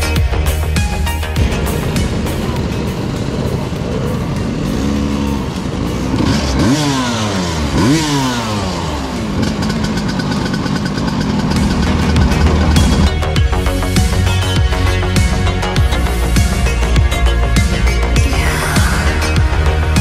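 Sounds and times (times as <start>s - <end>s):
two-stroke scooter engines revving: 0.0s - 20.0s.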